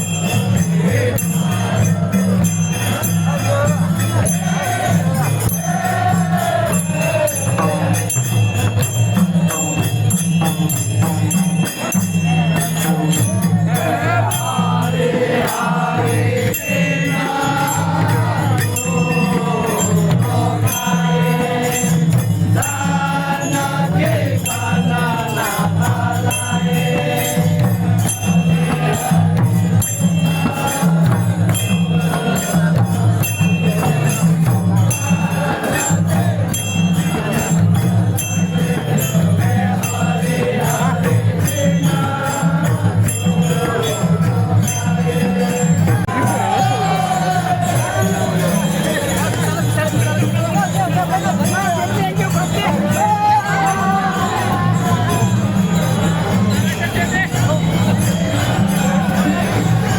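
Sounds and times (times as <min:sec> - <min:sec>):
group devotional singing: 0:00.0 - 0:59.9
repeating drum beat: 0:00.0 - 0:59.9
small cymbals clashing: 0:00.0 - 0:59.9.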